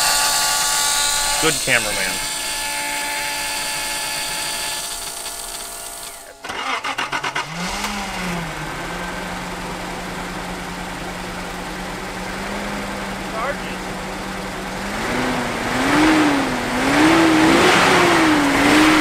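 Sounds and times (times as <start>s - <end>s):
steady whine: 0.0s - 19.0s
car engine cranking and idling: 1.1s - 19.0s.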